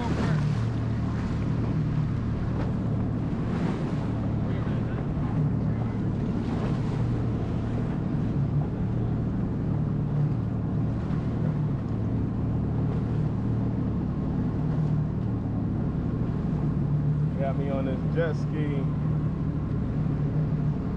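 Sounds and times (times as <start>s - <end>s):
jet ski engine running: 0.0s - 20.9s.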